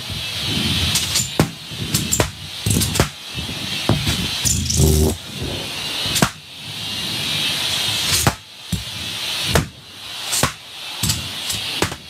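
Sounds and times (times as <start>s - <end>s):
shop vac sucking air: 0.0s - 12.0s.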